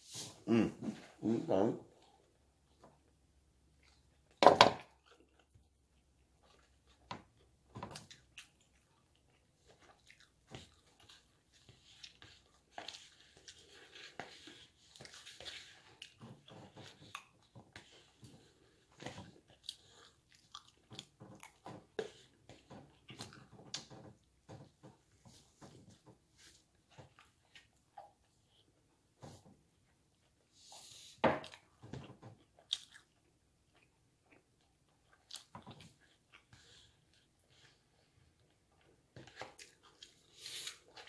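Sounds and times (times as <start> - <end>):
person chewing food: 2.0 - 41.0.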